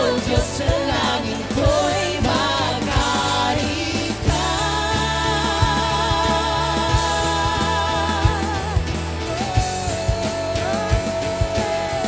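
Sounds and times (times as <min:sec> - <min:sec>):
drum kit: 0:00.0 - 0:12.0
worship band playing: 0:00.0 - 0:12.0.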